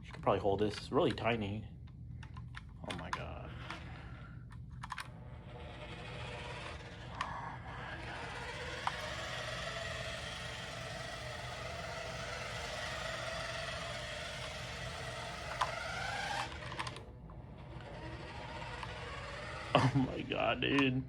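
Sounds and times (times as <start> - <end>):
toy car motor whirring: 2.2 - 21.0.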